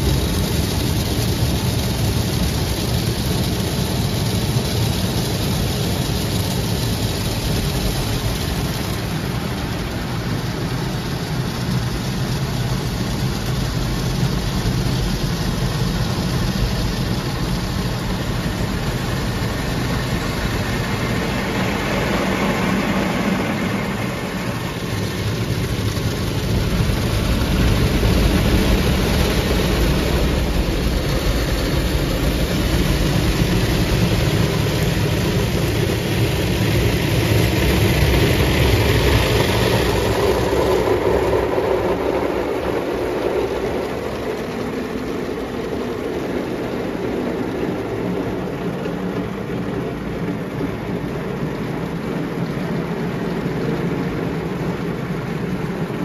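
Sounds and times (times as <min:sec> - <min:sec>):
car wash machinery running: 0:00.0 - 0:56.0
rotating brushes on car: 0:00.0 - 0:56.0
water spraying on car: 0:00.0 - 0:56.0.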